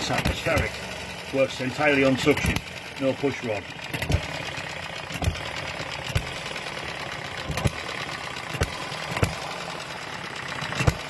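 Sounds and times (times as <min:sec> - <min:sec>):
small engine clattering: 0:00.0 - 0:11.0.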